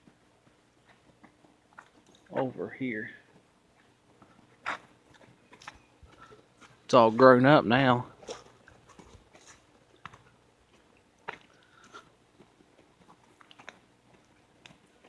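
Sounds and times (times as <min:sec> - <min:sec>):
footsteps crunching on dry ground: 0:00.0 - 0:15.0.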